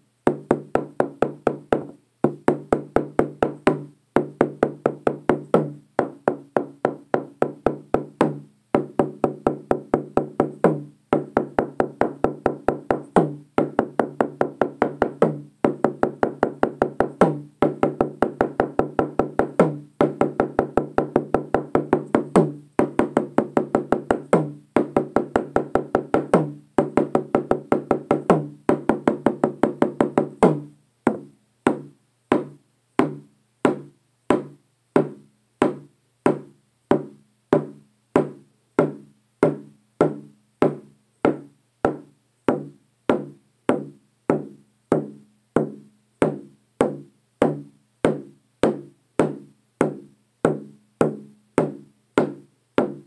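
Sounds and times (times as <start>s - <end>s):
hand drum struck with beater: 0.3s - 53.0s.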